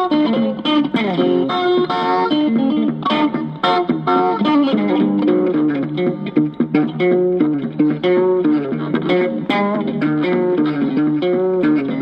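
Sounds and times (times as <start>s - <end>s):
guitar plucking notes: 0.0s - 12.0s.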